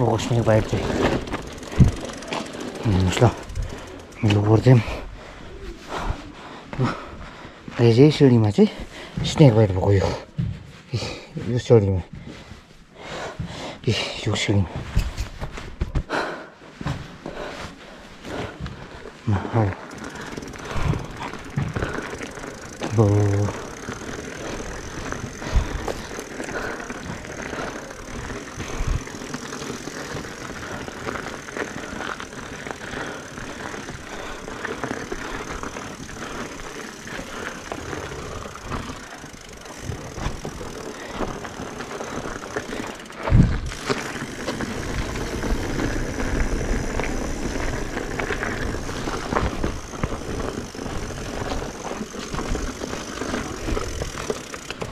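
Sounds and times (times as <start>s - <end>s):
wind and tyres rolling: 0.0s - 54.9s.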